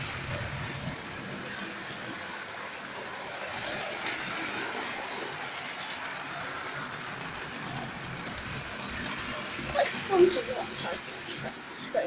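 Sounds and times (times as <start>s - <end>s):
model train motors whirring: 0.0s - 12.0s.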